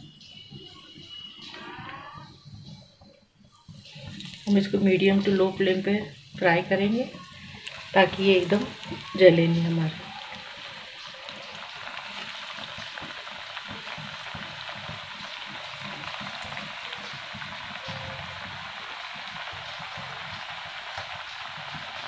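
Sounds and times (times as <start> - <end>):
food deep-frying in oil: 3.4 - 22.0.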